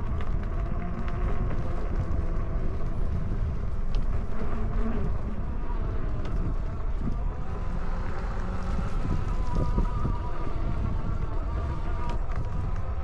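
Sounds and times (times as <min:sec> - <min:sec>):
electric motor buzzing whine: 0:00.0 - 0:13.0
wind rumbling on microphone: 0:00.0 - 0:13.0.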